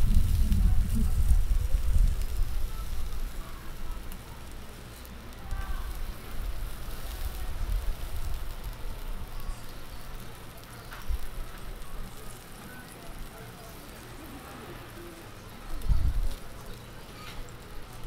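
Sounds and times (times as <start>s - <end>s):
skewers sizzling on a grill: 0.0s - 18.0s.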